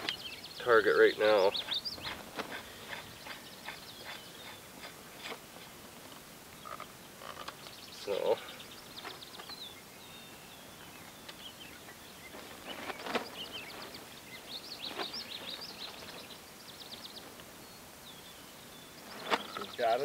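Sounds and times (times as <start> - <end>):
birds chirping and trilling: 0.0 - 5.9, 6.5 - 20.0.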